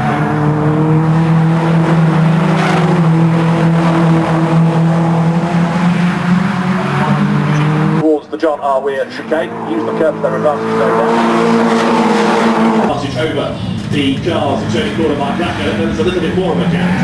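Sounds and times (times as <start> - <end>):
race car engines at high revs: 0.0 - 17.0.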